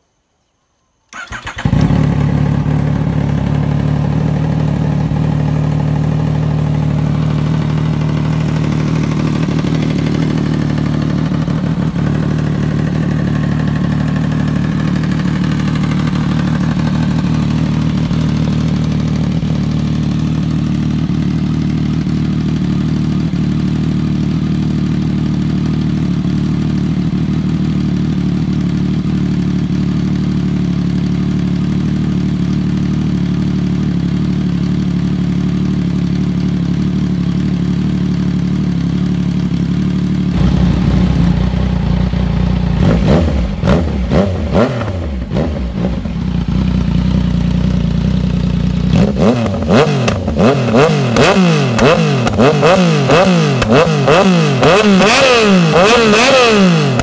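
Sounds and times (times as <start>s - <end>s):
motorcycle engine starting and idling: 1.1s - 57.0s.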